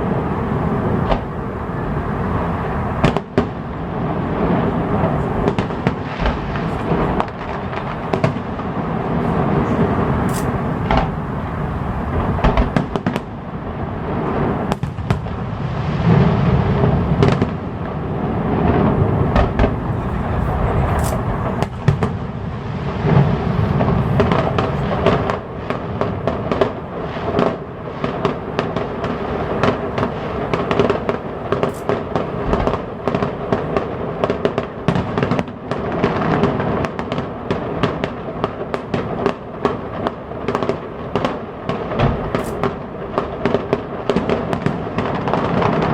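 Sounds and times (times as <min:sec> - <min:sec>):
fireworks bangs and crackles: 0:00.0 - 0:45.9
low firework booms: 0:00.0 - 0:45.9.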